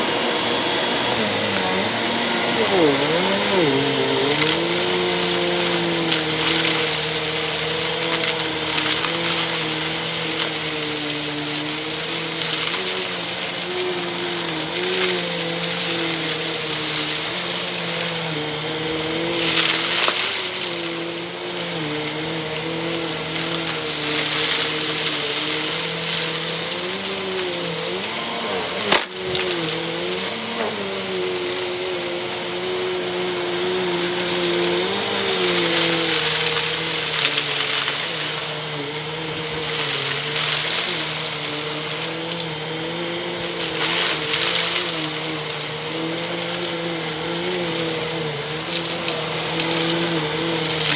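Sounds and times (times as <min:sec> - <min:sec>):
dust and grit crackling: 0:00.0 - 0:50.9
vacuum cleaner running: 0:00.0 - 0:50.9.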